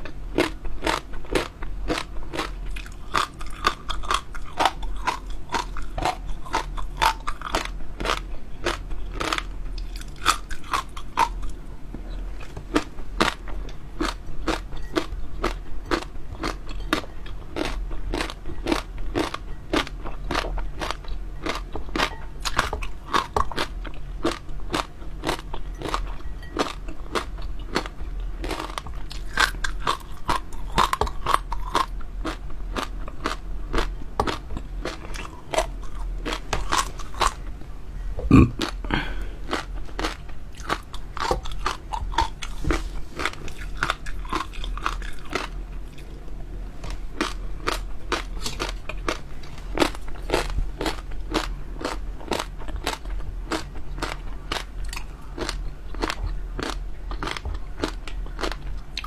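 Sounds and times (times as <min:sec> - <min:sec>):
crunchy chewing and biting: 0:00.0 - 0:37.5, 0:38.3 - 0:59.0
low hum: 0:00.0 - 0:59.0.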